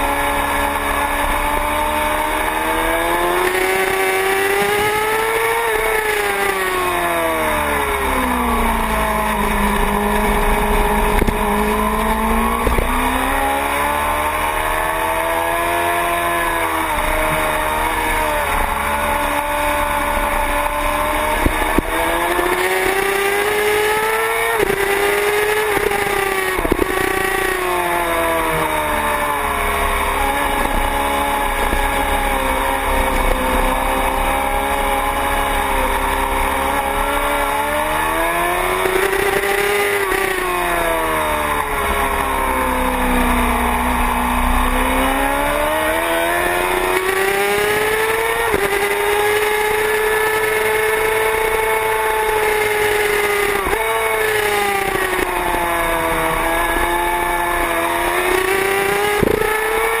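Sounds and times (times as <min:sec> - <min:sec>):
low wind noise: 0:00.0 - 1:00.0
motorcycle engine revving: 0:00.0 - 1:00.0.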